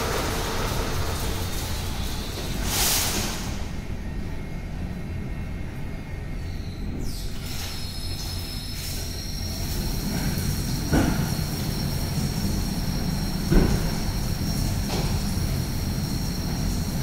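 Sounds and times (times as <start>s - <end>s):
car wash mechanical rumble: 0.0s - 17.0s
high machine whine: 0.0s - 17.0s.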